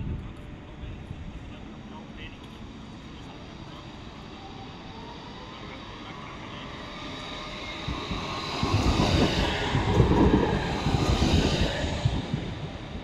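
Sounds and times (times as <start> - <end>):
tram rumbling: 0.0 - 13.0.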